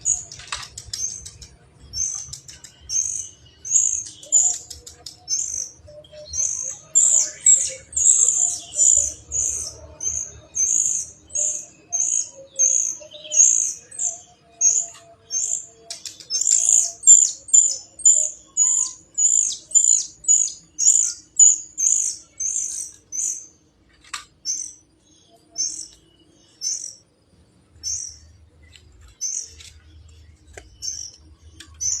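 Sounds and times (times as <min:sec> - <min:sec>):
songbird chirping: 0:00.0 - 0:32.0.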